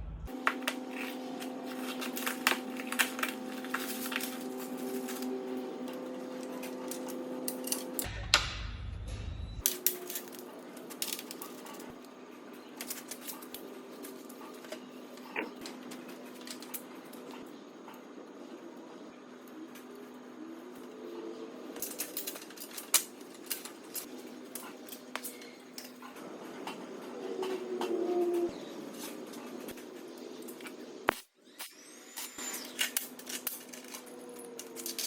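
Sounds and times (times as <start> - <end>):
steady hum: 0.0 - 31.2.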